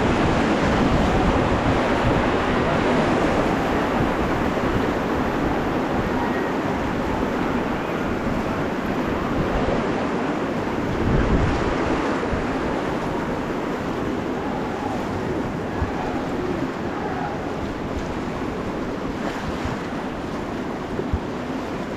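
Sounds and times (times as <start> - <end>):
rushing river water: 0.0 - 21.9
wind buffeting microphone: 0.0 - 21.9.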